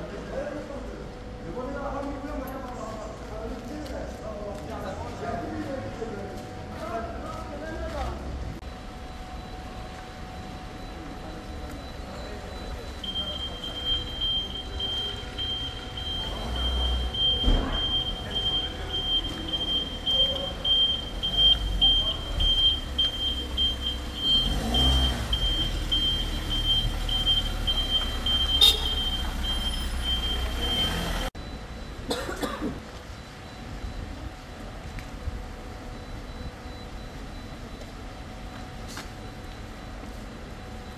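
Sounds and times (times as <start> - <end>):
vehicle engine idling: 0.0 - 40.9.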